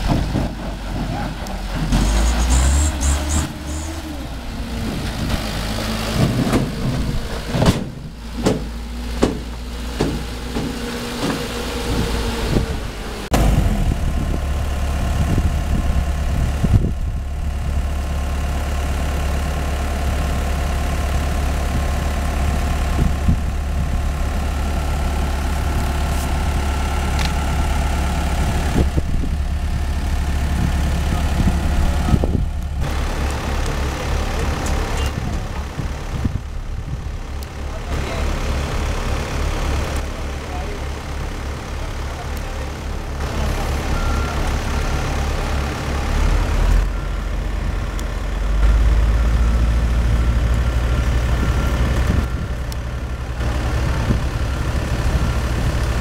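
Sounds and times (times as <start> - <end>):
truck engine knocking: 0.0 - 2.8, 3.4 - 56.0
mini excavator diesel engine running: 0.0 - 56.0.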